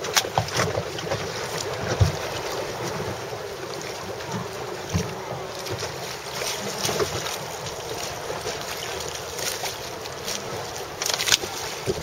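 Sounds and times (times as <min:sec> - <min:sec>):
water lapping on boat: 0:00.0 - 0:12.0
wind buffeting microphone: 0:00.0 - 0:12.0.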